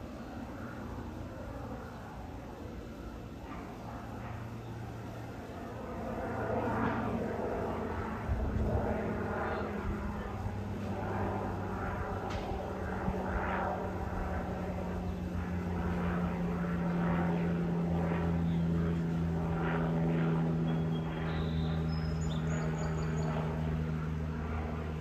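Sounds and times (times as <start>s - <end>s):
propeller airplane droning overhead: 0.0s - 25.0s.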